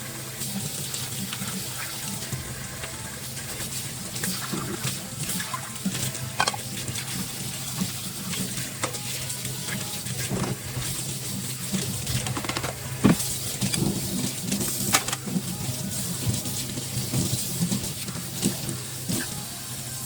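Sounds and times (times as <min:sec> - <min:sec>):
scrubbing dishes: 0:01.0 - 0:19.3
dishes and utensils clinking: 0:01.8 - 0:19.3.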